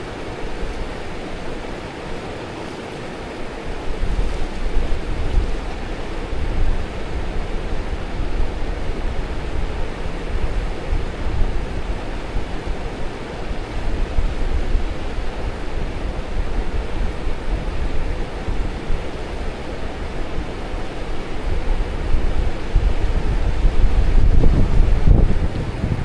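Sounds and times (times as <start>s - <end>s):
strong wind buffeting microphone: 0.0s - 26.0s.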